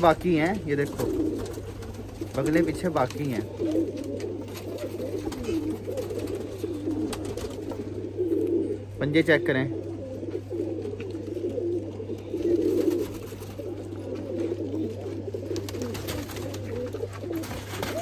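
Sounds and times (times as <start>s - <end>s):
pigeons cooing: 0.0s - 18.0s
steady low hum: 0.0s - 18.0s.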